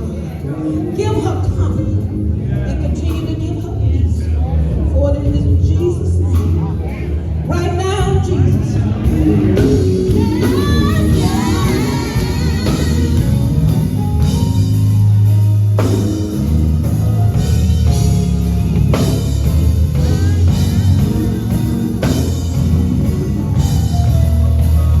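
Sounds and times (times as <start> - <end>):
gospel band playing instrumental: 0.0 - 25.0.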